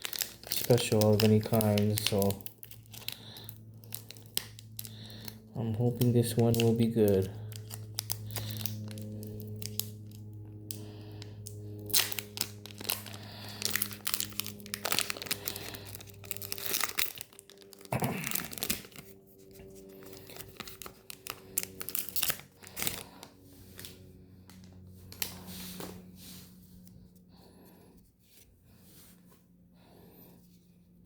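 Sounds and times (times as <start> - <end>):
foil wrapper tearing and crinkling: 0.0 - 26.0.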